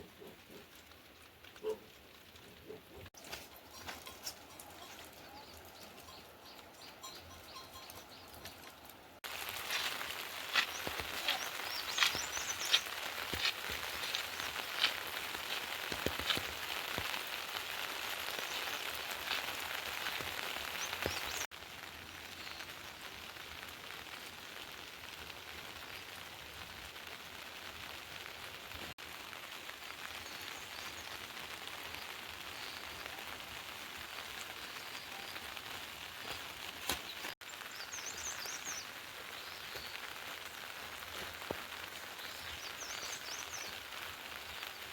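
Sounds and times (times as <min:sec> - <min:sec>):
rain falling: 0:00.0 - 0:44.9
water drips and patters: 0:07.7 - 0:44.9.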